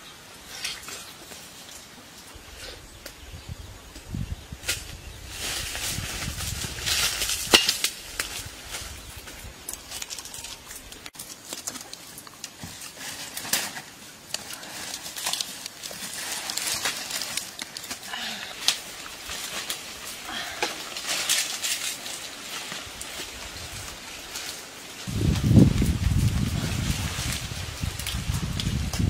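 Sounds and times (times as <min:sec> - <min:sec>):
leaves and branches rustling: 0:00.0 - 0:29.0
twigs snapping: 0:05.6 - 0:29.0.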